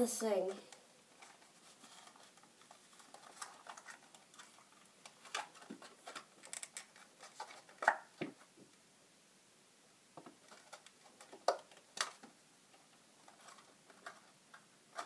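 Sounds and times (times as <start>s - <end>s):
plastic packaging clicking and crinkling: 1.1s - 8.4s, 10.2s - 15.0s.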